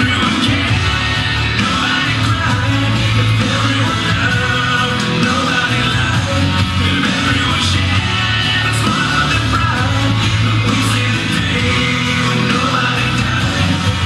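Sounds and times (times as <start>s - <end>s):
rock and roll music with singing: 0.0s - 14.0s.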